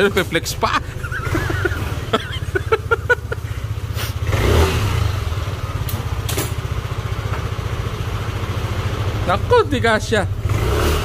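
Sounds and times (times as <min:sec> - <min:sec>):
scooter engine idling and revving: 0:00.0 - 0:11.0.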